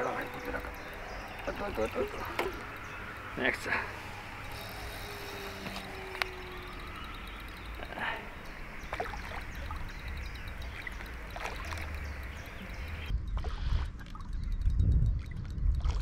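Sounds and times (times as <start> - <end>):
water sloshing and splashing: 0.0 - 14.2.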